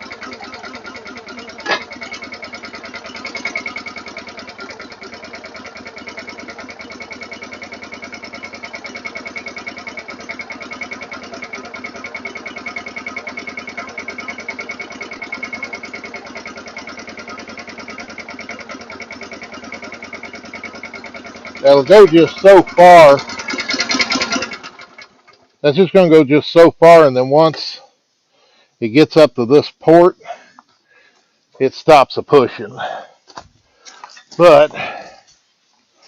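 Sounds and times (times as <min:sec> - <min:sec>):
small gas engine running: 0:00.0 - 0:35.4.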